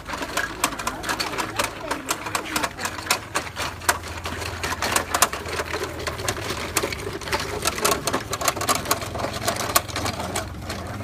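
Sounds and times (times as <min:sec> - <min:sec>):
mechanical clicking and clattering: 0:00.0 - 0:11.0.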